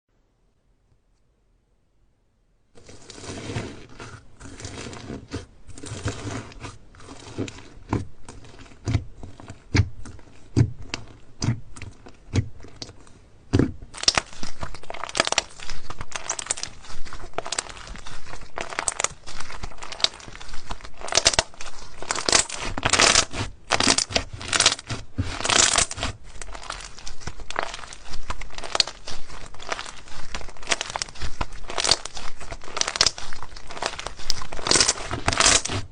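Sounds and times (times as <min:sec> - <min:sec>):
slime squished by hand: 0:02.8 - 0:35.9.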